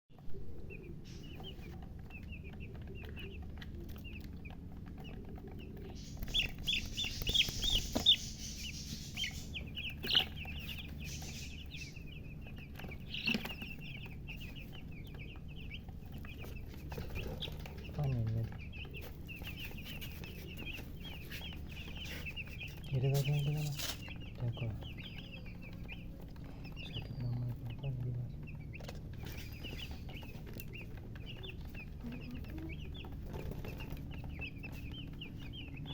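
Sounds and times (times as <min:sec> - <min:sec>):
baby chicks peeping: 0:00.1 - 0:35.9
steady low hum: 0:00.2 - 0:35.9.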